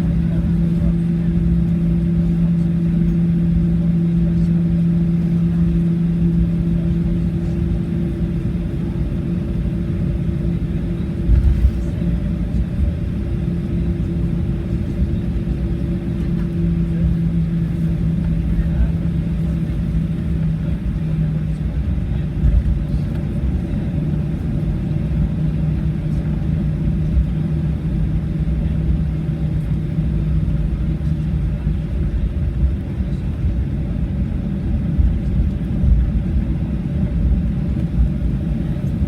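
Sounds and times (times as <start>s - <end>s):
aircraft engines idling: 0.0s - 39.0s
steady cabin hum: 0.0s - 39.0s.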